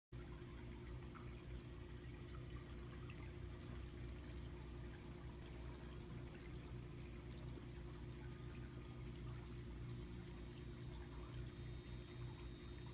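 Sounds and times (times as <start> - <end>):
faint running water: 0.2 - 12.9
low even hum: 0.2 - 12.9.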